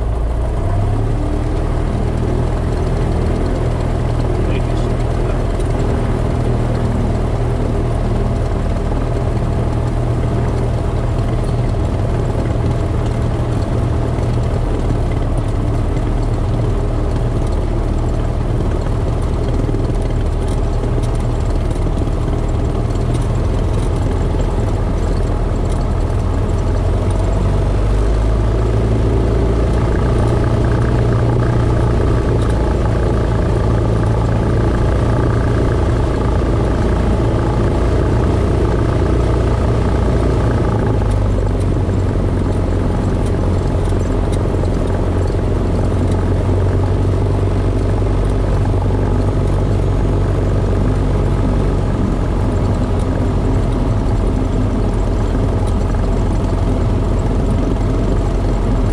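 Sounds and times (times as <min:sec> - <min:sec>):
light aircraft engine and propeller: 0:00.0 - 0:58.9.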